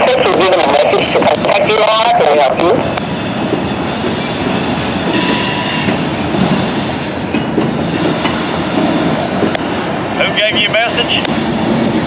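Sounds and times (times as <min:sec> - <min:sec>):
train cars clanking: 0:00.0 - 0:12.0
train wheels rumbling on rail: 0:00.0 - 0:12.0.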